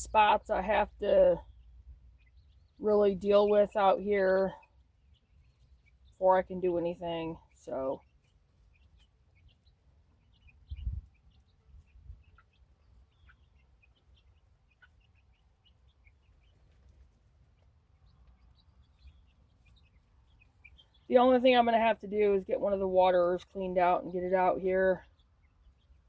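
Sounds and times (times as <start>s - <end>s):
chicks peeping: 0.6s - 21.8s, 22.5s - 26.0s.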